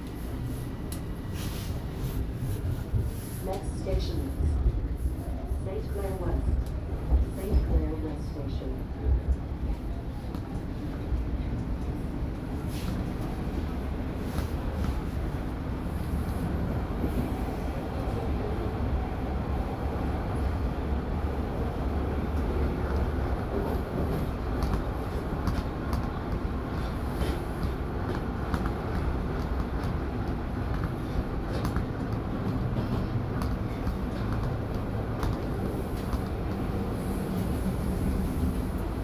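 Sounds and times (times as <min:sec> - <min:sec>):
subway train rumble: 0:00.0 - 0:39.0.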